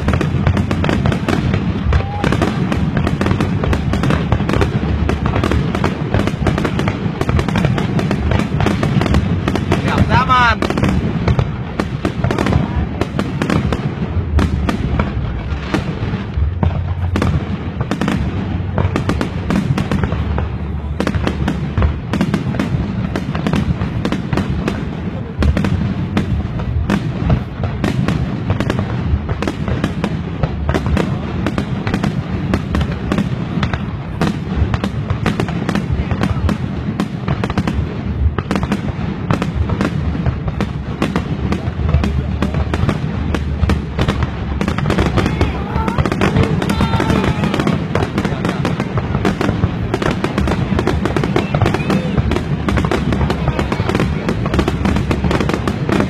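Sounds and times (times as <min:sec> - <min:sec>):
deep rumble: 0:00.0 - 0:56.0
fireworks bangs and crackles: 0:00.0 - 0:56.0.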